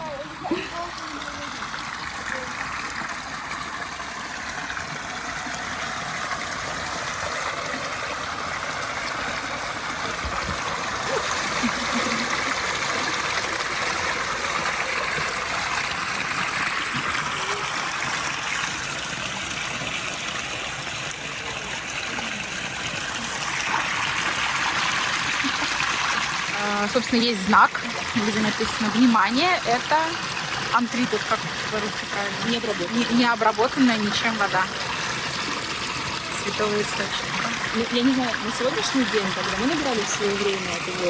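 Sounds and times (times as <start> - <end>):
spring water trickling: 0.0 - 41.0.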